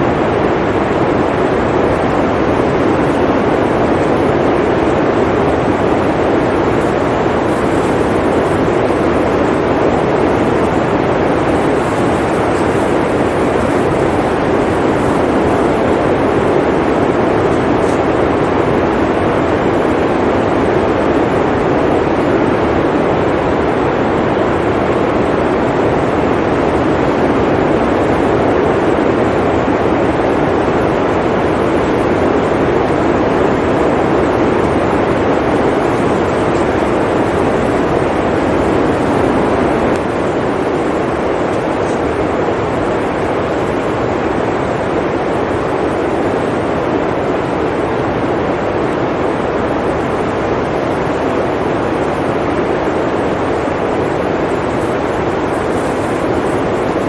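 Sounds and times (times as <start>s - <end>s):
blizzard wind roaring: 0.0s - 57.0s.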